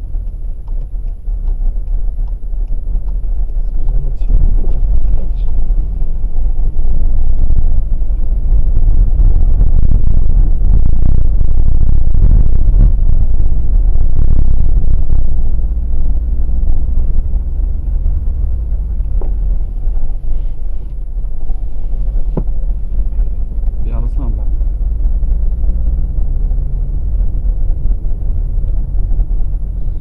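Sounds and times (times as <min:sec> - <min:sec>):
road and tyre rumble on wet road: 0:00.0 - 0:30.0.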